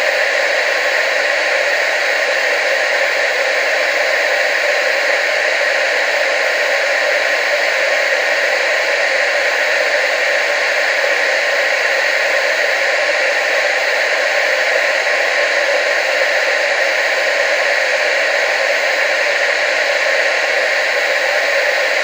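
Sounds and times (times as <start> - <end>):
tv static hiss: 0.0 - 22.0.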